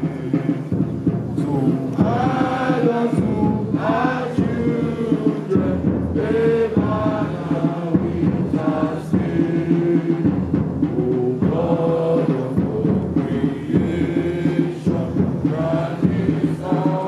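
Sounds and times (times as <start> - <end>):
drums: 0.0 - 17.0
group singing in unison: 0.0 - 17.0.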